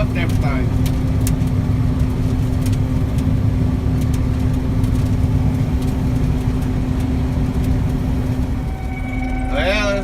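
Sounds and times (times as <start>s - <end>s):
combine harvester engine rumble: 0.0s - 10.0s.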